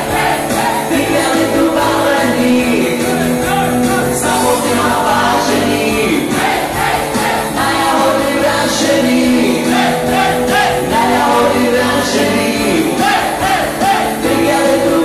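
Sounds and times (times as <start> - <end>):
men singing loudly: 0.0 - 15.0.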